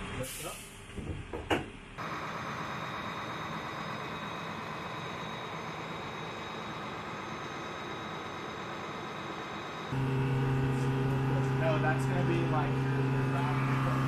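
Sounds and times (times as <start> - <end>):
high-pitched whine: 2.0 - 14.0
machinery drone: 2.0 - 14.0.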